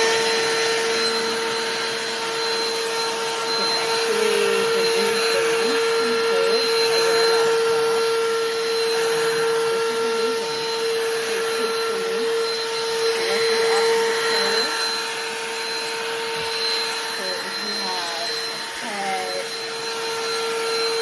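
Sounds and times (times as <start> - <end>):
handheld vacuum motor whine: 0.0 - 21.0.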